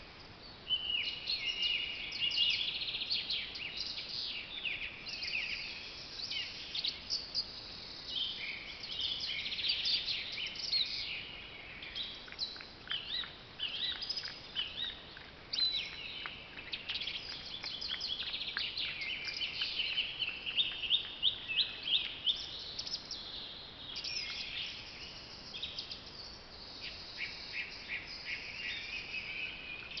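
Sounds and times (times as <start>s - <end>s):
faint steady hiss: 0.0s - 30.0s
songbirds chorus: 0.0s - 30.0s.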